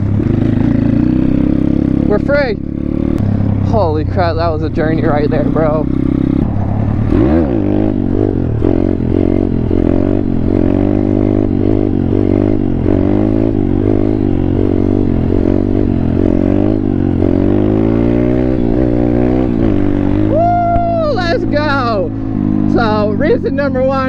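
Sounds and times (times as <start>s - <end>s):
pit bike engine revving: 0.0s - 24.0s.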